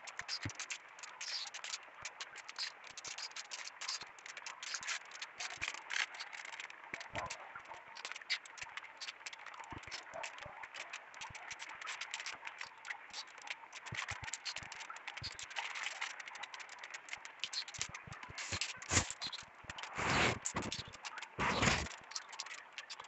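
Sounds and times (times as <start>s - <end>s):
raindrops tapping on leaves: 0.0s - 23.0s.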